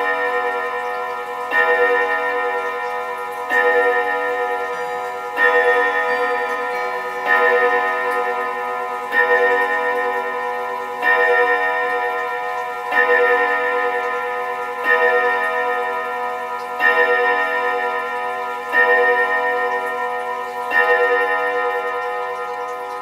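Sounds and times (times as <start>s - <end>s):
wall clock striking chime rods: 0.0s - 23.0s.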